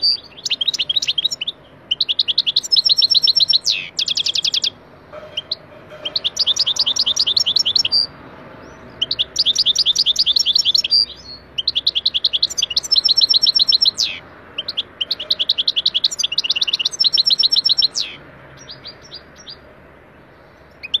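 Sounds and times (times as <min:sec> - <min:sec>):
bird chirps: 0:00.0 - 0:21.0
bird singing trilled notes: 0:00.0 - 0:21.0.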